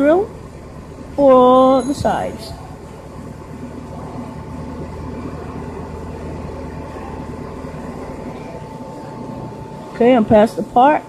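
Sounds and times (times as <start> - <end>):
high whine: 0.0 - 11.0
milling machine hum: 0.0 - 11.0.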